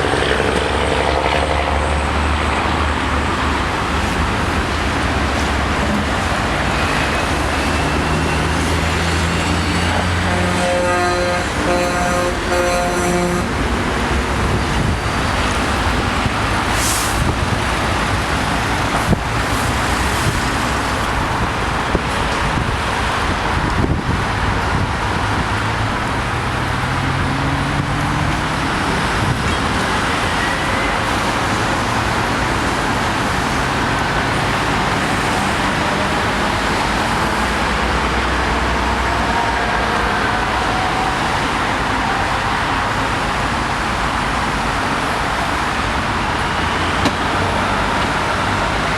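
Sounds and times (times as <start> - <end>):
freeway traffic: 0.0 - 48.9.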